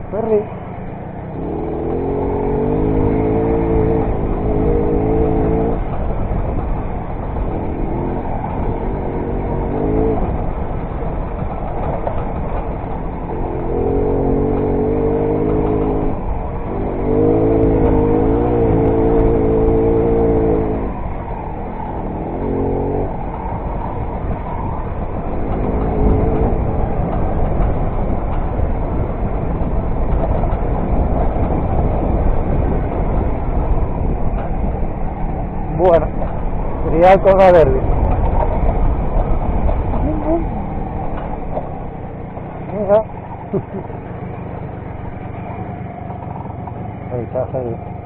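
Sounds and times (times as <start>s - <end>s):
moped engine revving: 0.0s - 48.0s.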